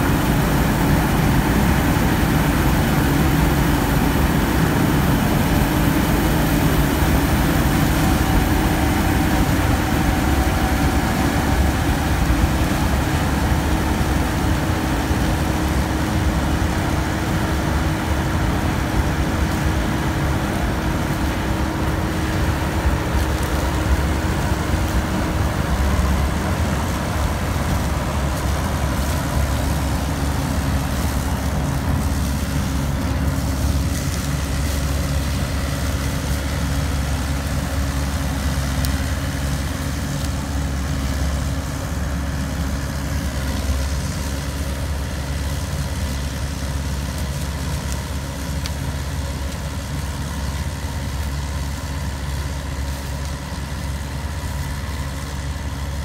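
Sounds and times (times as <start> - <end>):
combine harvester engine drone: 0.0 - 56.0
machinery noise: 0.0 - 56.0.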